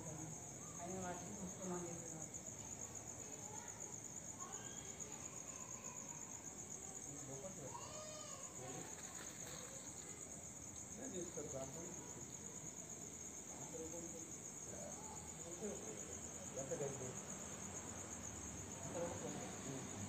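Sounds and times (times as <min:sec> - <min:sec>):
faint voices: 0:00.0 - 0:17.5
insect chirring trill: 0:00.0 - 0:20.0.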